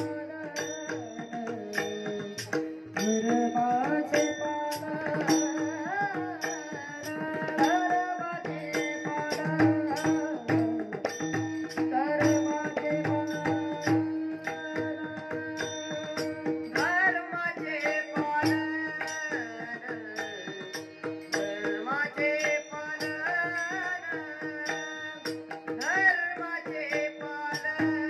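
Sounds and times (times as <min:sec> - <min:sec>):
boy singing devotional song: 0:00.0 - 0:28.0
hand cymbals striking: 0:00.0 - 0:28.0.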